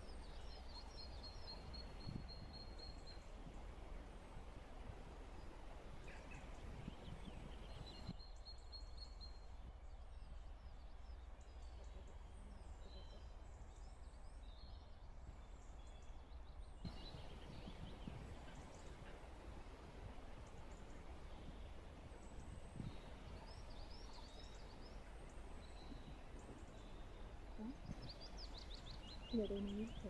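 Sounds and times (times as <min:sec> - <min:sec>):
faint birdsong chirps: 0:00.0 - 0:30.0.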